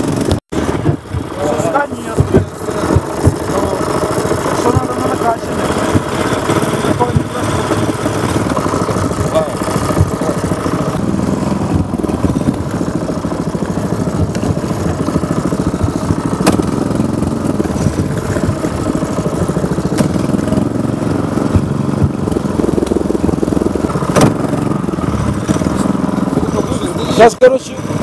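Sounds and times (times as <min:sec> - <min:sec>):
small motorcycle engine running: 0:00.0 - 0:28.0.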